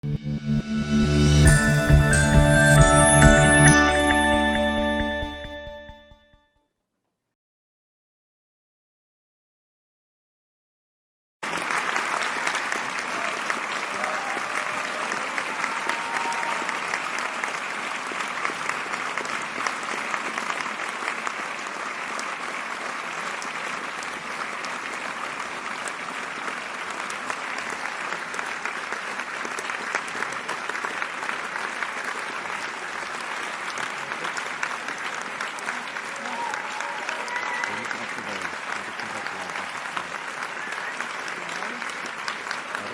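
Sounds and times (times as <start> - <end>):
crowd applause: 1.0 - 6.0, 11.4 - 42.9.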